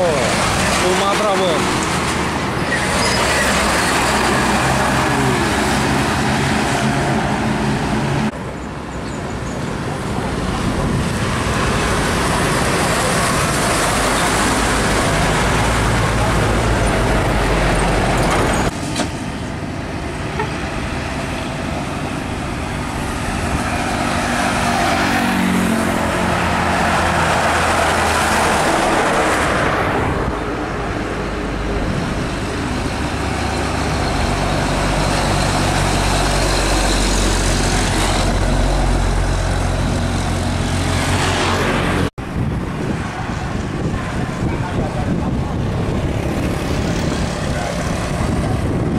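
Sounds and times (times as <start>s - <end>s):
truck engines running: 0.0s - 48.9s
tyre and road noise: 0.0s - 48.9s.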